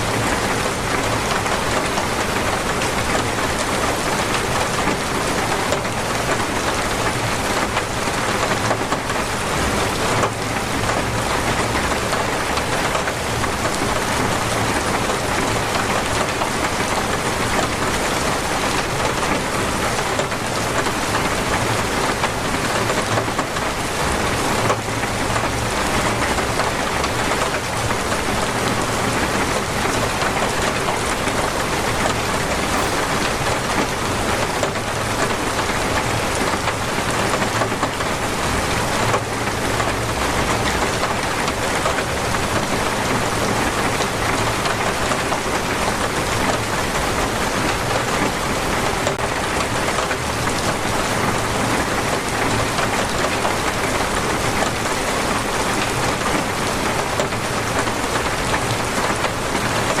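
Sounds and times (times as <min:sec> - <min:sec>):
torrential rain pouring: 0:00.0 - 1:00.0.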